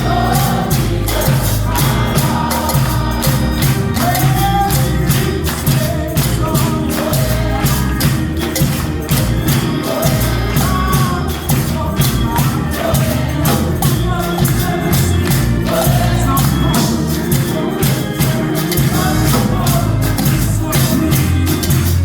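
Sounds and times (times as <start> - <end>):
bass: 0.0 - 22.0
tambourine shaking: 0.0 - 22.0
voices singing: 0.0 - 22.0.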